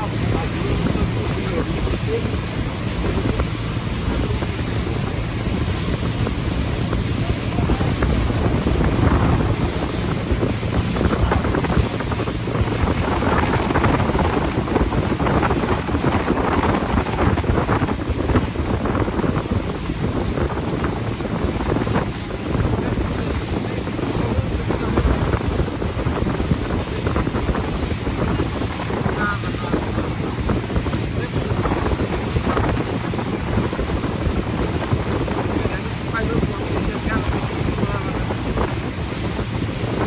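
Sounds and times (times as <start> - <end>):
boat engine rumble: 0.0 - 40.0
sea water wash: 0.0 - 40.0
wind buffeting microphone: 0.0 - 40.0.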